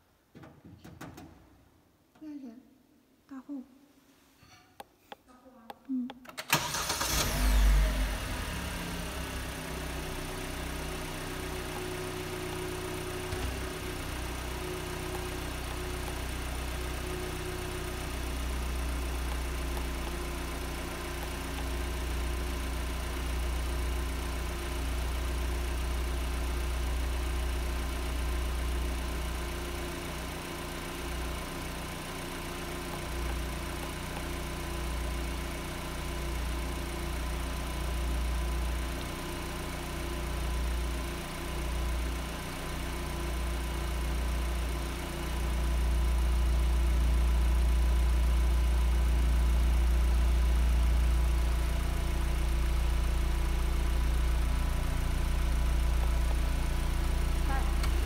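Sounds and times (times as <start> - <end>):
car engine starting and idling: 6.2 - 58.0.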